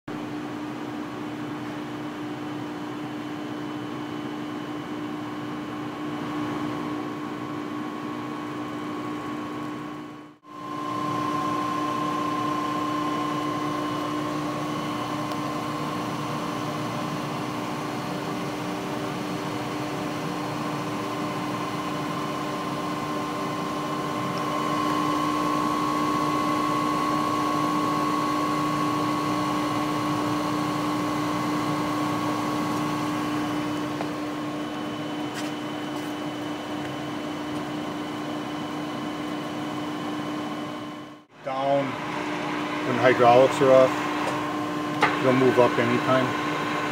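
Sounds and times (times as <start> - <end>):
grinder motor humming and whining: 5.8 - 46.9.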